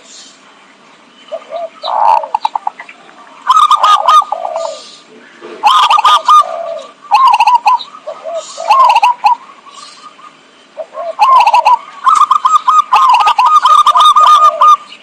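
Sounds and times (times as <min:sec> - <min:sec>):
dove cooing: 0:01.3 - 0:15.0.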